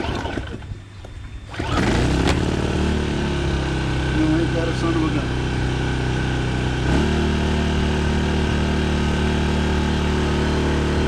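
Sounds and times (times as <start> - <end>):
petrol generator engine running: 0.0 - 11.0.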